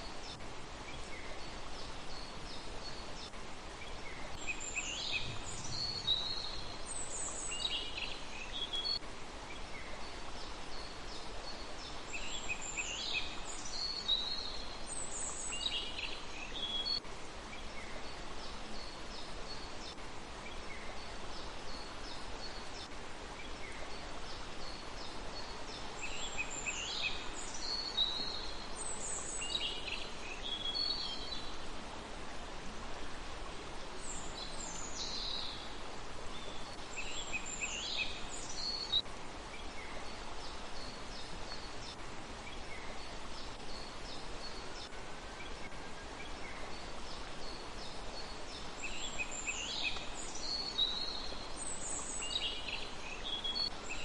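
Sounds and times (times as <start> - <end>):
songbird chirping: 0.0 - 54.0
steady background hiss: 0.0 - 54.0.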